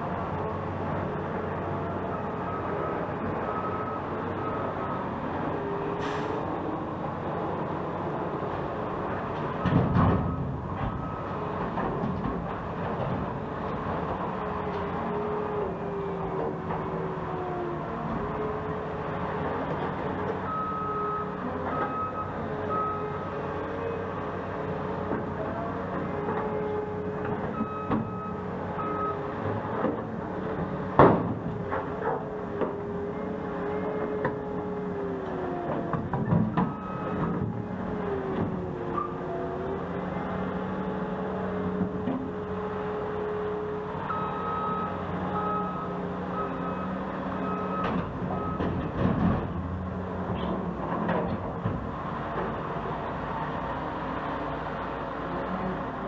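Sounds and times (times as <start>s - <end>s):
heavy construction equipment running: 0.0s - 56.0s.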